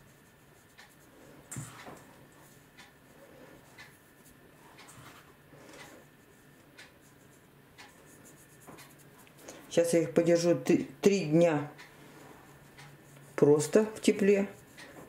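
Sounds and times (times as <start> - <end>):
scratching and rustling: 0.0 - 10.5, 11.8 - 15.0.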